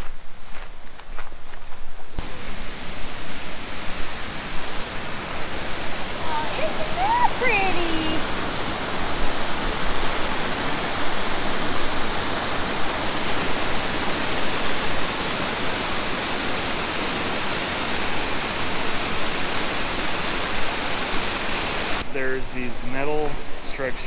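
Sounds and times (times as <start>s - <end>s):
waterfall rushing: 2.2s - 24.0s.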